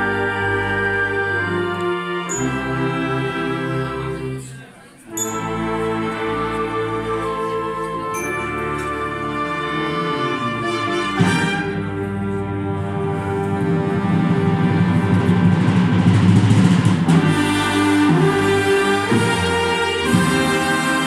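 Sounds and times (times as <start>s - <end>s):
wind band playing: 0.0s - 4.5s, 5.1s - 21.0s.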